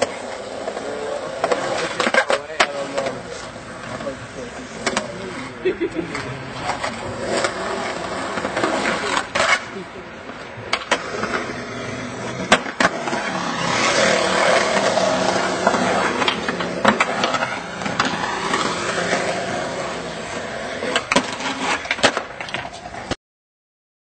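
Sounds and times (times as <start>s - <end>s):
skateboard clacking on concrete: 0.0s - 5.3s, 6.1s - 23.2s
skateboard wheels rolling on concrete: 0.0s - 23.2s.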